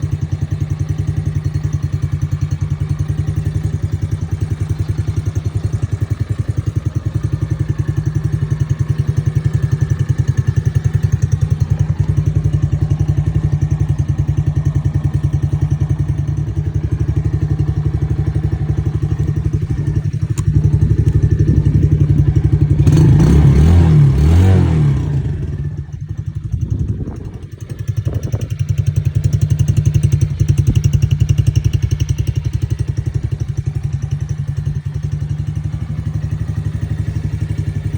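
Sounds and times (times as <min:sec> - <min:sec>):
atv engine idling and revving: 0:00.0 - 0:37.9.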